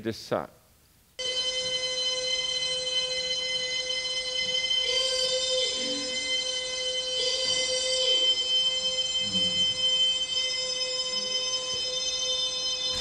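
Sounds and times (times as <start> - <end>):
steady buzzing tone: 1.2 - 13.0.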